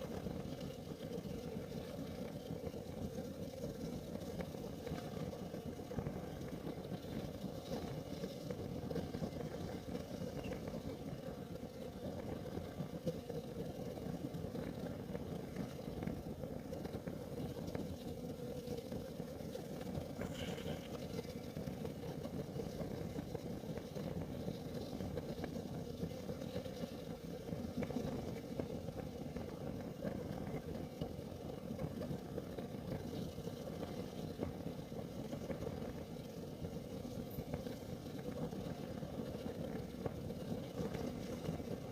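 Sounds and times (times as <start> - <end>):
faint crackles: 0.0 - 41.9
heater flame rumbling: 0.0 - 41.9.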